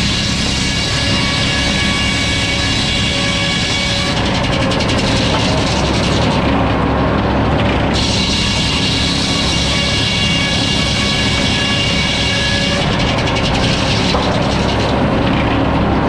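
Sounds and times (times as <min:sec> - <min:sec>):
sawmill sawing a log: 0:00.0 - 0:16.0.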